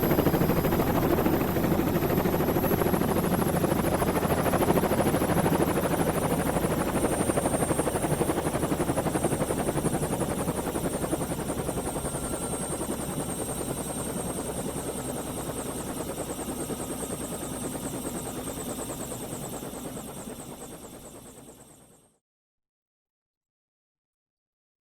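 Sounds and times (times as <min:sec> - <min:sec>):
helicopter rotor chopping: 0:00.0 - 0:21.8.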